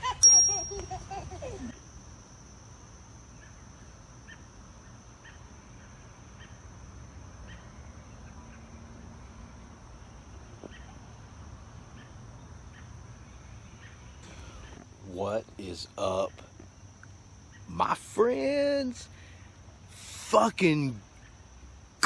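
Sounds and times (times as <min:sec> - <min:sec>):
high insect drone: 0:00.0 - 0:22.0
insect chirps: 0:00.0 - 0:22.0.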